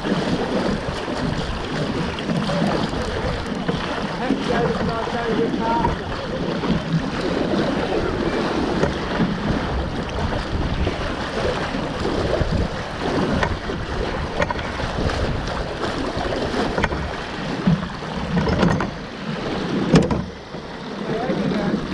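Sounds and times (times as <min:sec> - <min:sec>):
water rushing along hull: 0:00.0 - 0:21.9
wind buffeting microphone: 0:00.0 - 0:21.9.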